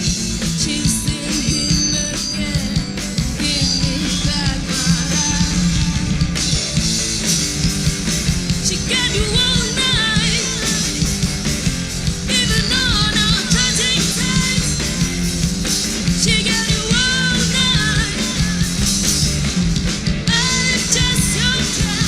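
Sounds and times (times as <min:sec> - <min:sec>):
bending lead melody: 0:00.0 - 0:22.0
rock band playing live: 0:00.0 - 0:22.0.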